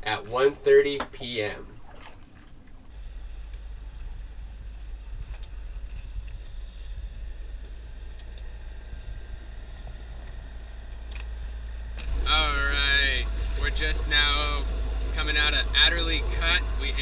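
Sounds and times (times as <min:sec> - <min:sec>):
boat low rumble: 0:00.0 - 0:17.0
water swishing along hull: 0:00.0 - 0:17.0.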